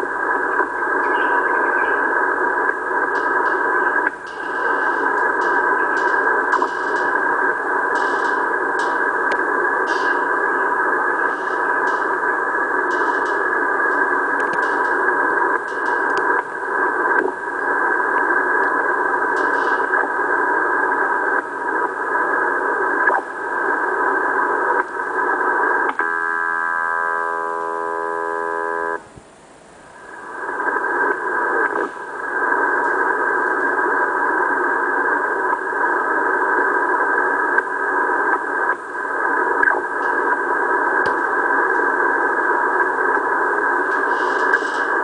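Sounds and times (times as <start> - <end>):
radio static noise: 0.0 - 45.0
steady radio tones: 0.0 - 45.0.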